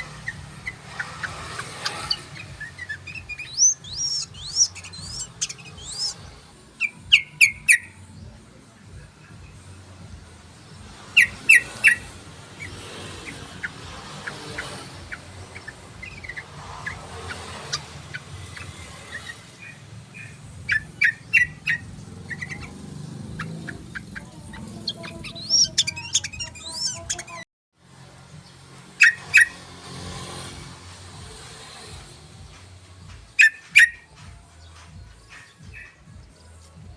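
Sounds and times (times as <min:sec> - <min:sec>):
bird chirping calls: 0:00.0 - 0:08.4, 0:09.3 - 0:27.5, 0:31.6 - 0:36.5.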